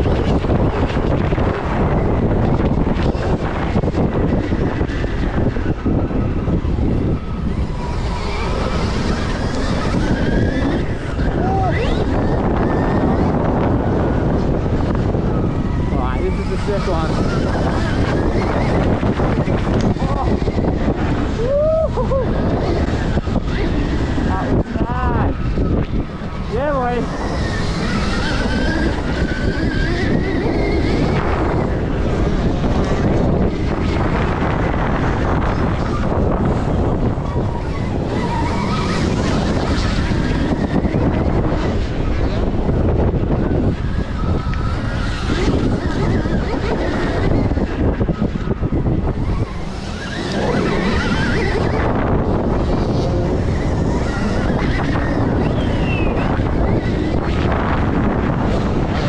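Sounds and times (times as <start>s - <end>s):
electric motor whine: 0.0s - 59.0s
wind buffeting microphone: 0.0s - 59.0s.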